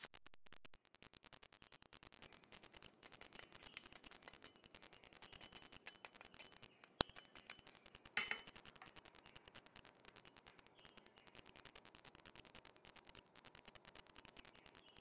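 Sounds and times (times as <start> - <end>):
crispy pancakes crackling: 0.0 - 15.0.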